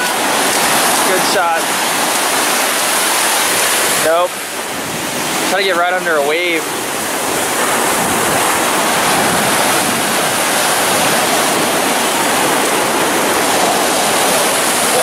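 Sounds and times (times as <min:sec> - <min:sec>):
waves breaking on sand: 0:00.0 - 0:15.0.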